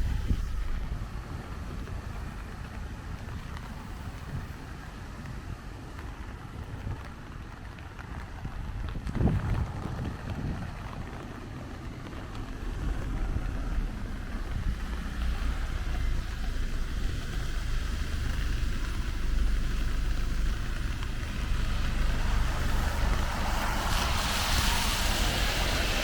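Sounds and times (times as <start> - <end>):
traffic low rumble: 0.0 - 26.0
tyres hissing on wet road: 0.0 - 26.0.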